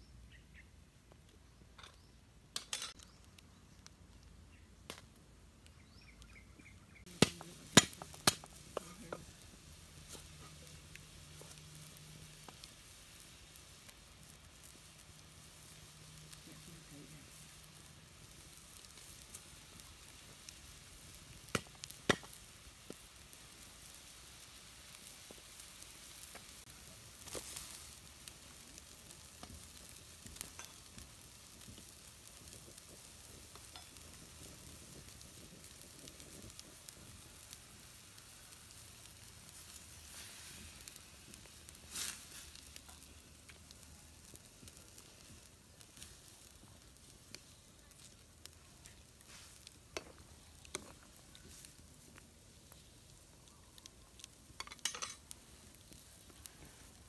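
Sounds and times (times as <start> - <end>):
water boiling: 5.7 - 57.0.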